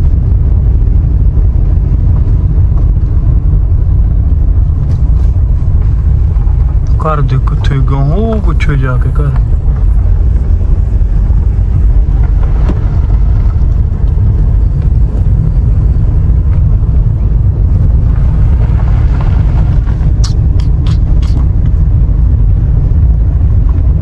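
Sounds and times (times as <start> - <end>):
car driving rumble: 0.0 - 24.0.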